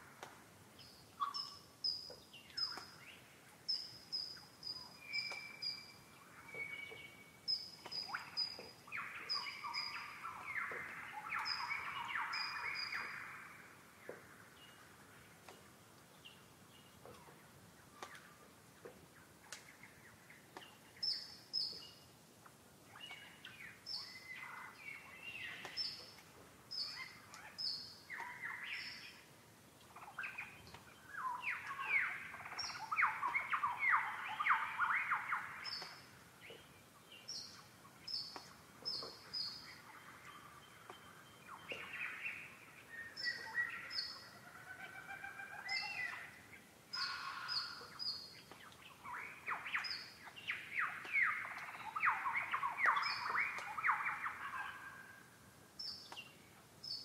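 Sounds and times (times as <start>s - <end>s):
lower bird song: 0.0s - 57.0s.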